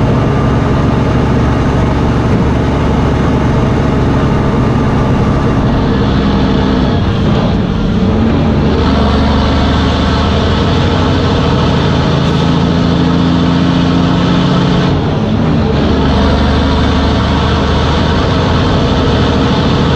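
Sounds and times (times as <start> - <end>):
diesel engine idling: 0.0 - 19.9.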